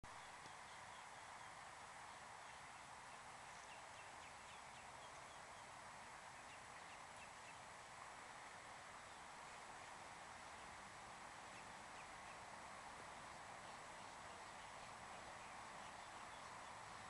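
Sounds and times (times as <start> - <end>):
outdoor background hiss: 0.0 - 17.0
distant birds chirping: 0.1 - 17.0.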